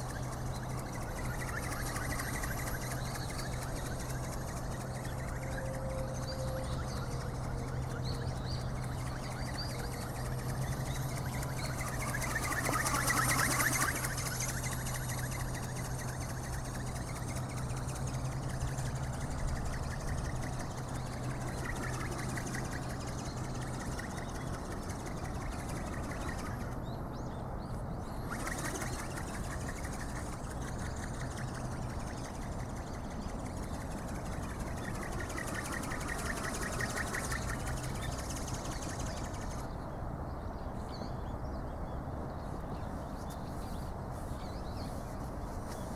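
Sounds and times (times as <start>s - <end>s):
wingbeats: 0.0s - 40.0s.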